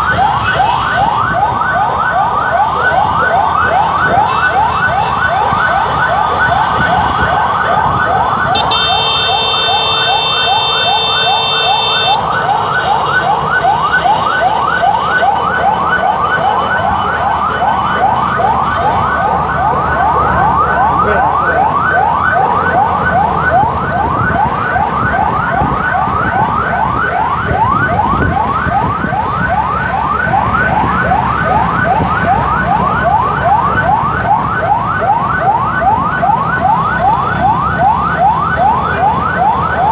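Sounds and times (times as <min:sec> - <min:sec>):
ambulance siren yelping: 0:00.0 - 0:39.9
road noise: 0:00.0 - 0:39.9.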